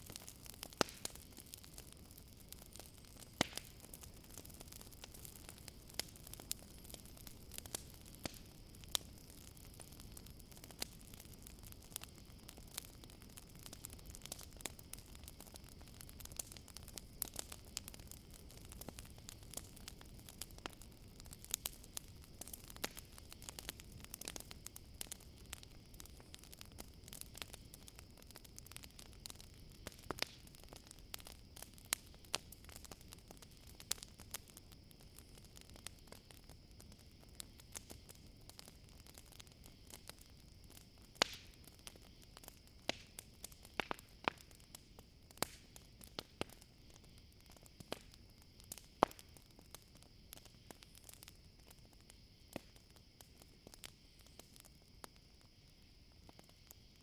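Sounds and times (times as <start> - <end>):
campfire crackling and popping: 0.0 - 57.0
crickets trilling: 0.0 - 57.0.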